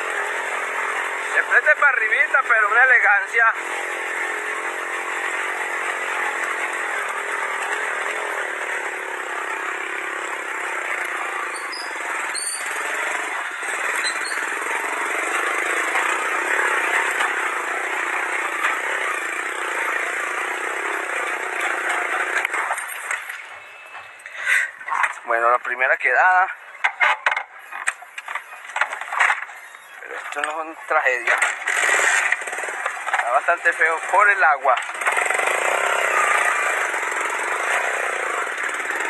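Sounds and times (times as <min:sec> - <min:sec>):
motorcycle engine running: 0:00.0 - 0:25.4, 0:26.4 - 0:39.0.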